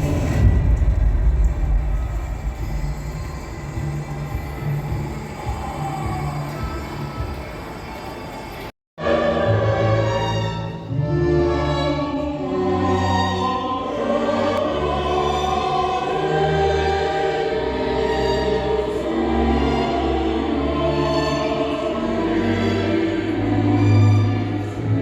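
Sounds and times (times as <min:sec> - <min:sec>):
choir with orchestra: 0:00.0 - 0:25.0.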